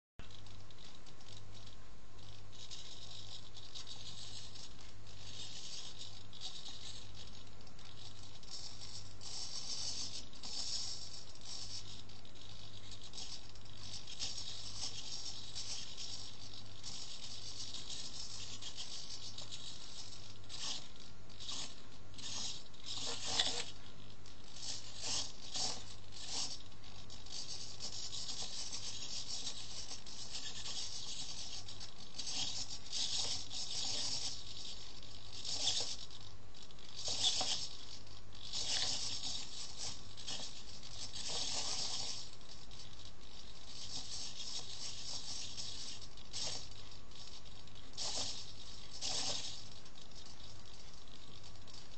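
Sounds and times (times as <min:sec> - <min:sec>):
steady low hum: 0:00.2 - 0:51.9.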